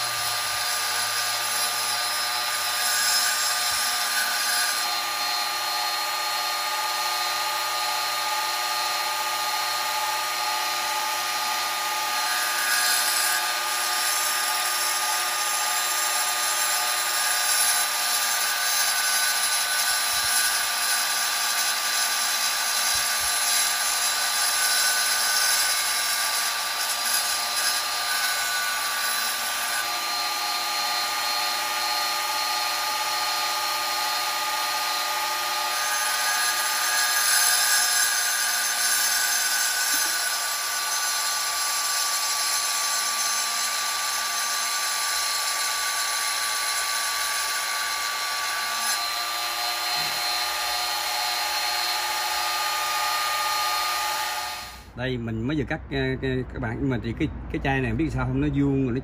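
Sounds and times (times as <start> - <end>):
tile saw grinding glass bottle: 0.0 - 54.9.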